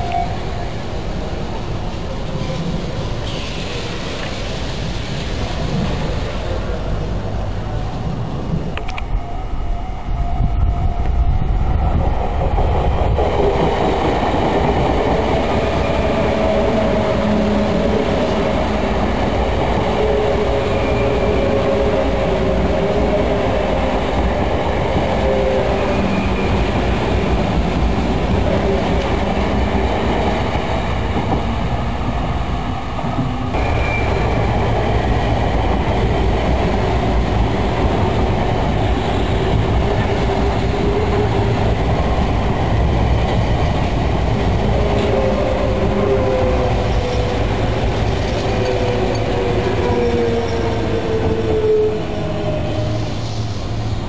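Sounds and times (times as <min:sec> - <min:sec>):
electric train passing: 0:00.0 - 0:54.0.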